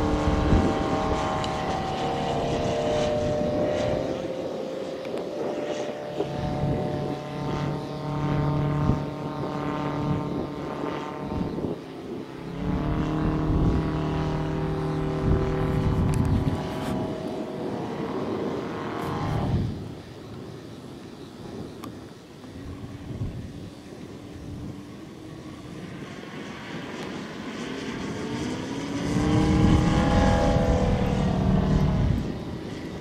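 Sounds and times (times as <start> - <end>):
model plane radial engine: 0.0 - 33.0.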